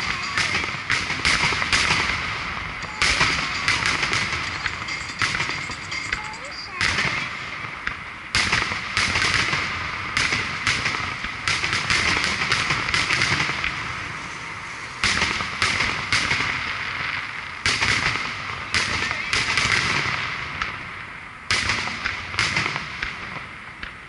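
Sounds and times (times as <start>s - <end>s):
firework bangs: 0.0s - 24.0s
firework crackle: 0.0s - 24.0s.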